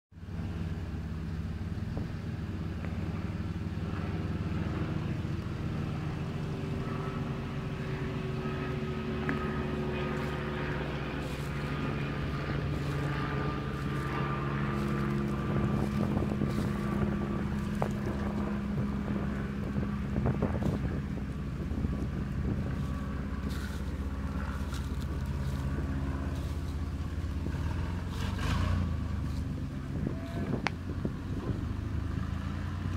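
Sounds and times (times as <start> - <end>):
truck engine idling: 0.2 - 32.9.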